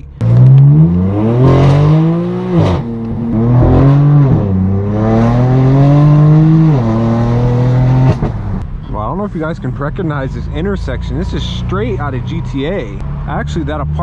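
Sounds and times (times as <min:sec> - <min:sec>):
car engine accelerating: 0:00.0 - 0:08.6, 0:09.9 - 0:14.0.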